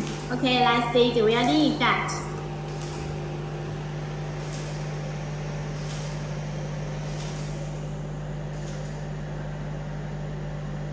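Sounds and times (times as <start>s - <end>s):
electrical hum with fan noise: 0.0s - 10.9s.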